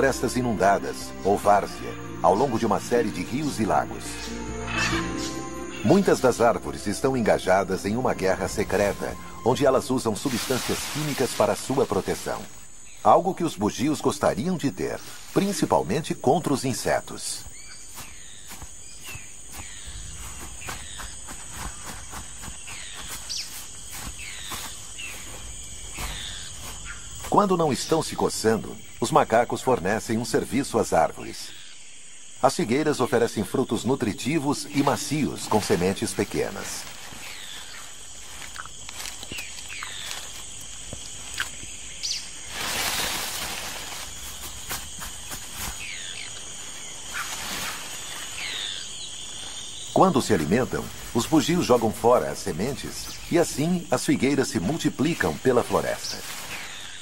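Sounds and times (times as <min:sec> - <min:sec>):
insects buzzing drone: 0:00.0 - 0:57.0
leaves rustling: 0:00.0 - 0:57.0
falling bird chirps: 0:01.0 - 0:13.2, 0:17.2 - 0:29.0, 0:34.3 - 0:53.9, 0:54.6 - 0:57.0.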